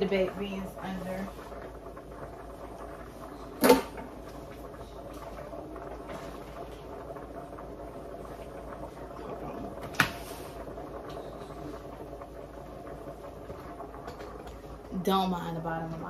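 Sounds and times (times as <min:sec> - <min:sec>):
pot of water bubbling: 0:00.0 - 0:16.0.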